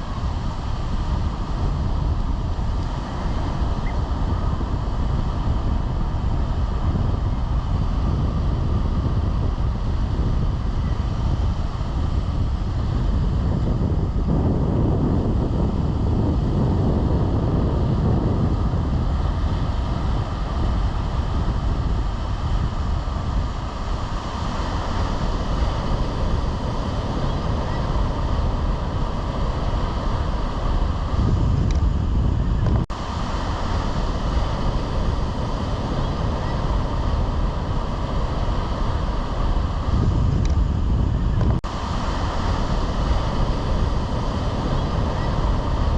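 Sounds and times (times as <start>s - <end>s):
surf on a sandy beach: 0.0s - 45.9s
wind buffeting microphone: 0.0s - 45.9s.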